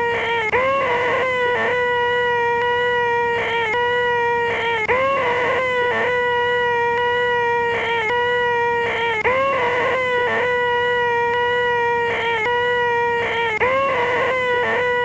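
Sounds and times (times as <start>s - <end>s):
man's nasal vocal whine: 0.0s - 15.0s.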